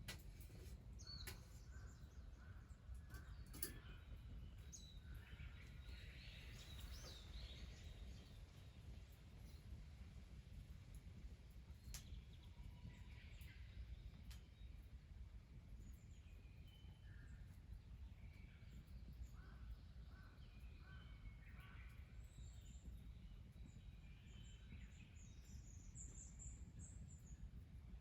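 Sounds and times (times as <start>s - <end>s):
faint birds chirping: 0.0s - 9.8s, 11.7s - 28.0s.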